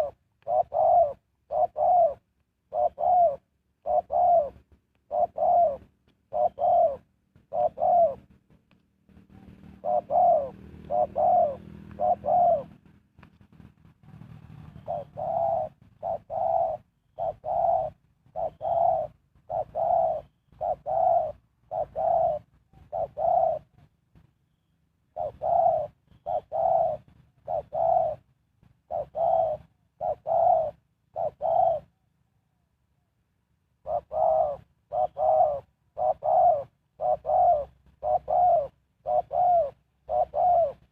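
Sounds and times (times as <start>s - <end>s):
dove cooing: 0.0s - 8.4s, 9.1s - 23.9s, 24.5s - 32.1s, 33.7s - 40.9s.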